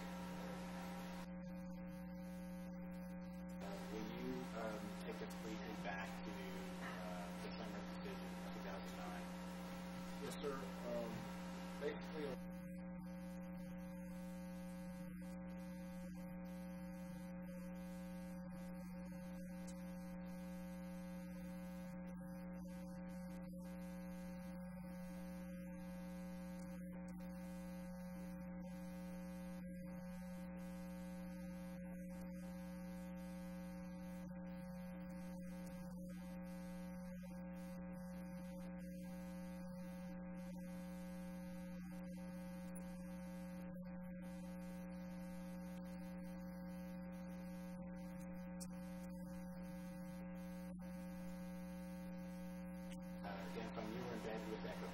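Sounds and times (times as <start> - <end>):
electrical hum: 0.0 - 54.9.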